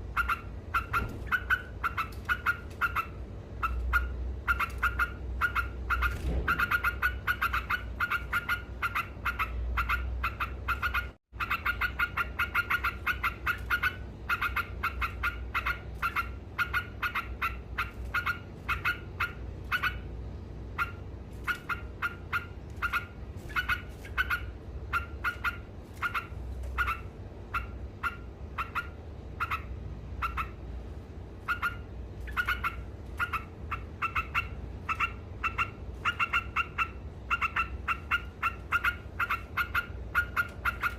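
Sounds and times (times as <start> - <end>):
bulbul chattering calls: 0.2 - 20.1, 20.8 - 30.6, 31.5 - 40.9.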